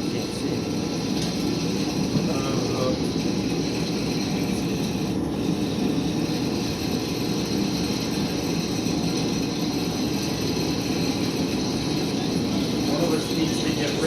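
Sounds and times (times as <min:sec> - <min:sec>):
shop machine droning: 0:00.0 - 0:14.0.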